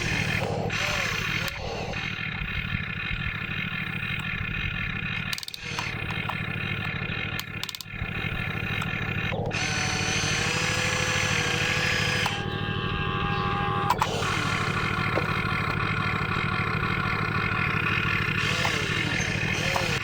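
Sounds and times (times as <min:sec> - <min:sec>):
small motors whining: 0:00.0 - 0:20.0
steady whining tone: 0:00.0 - 0:20.0.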